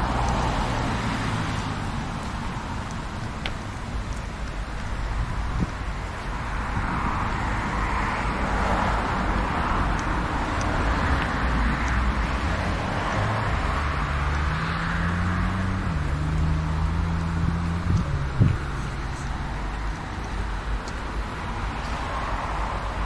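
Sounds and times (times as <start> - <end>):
low engine hum: 0.0 - 23.0
tyre and road noise: 0.0 - 23.0.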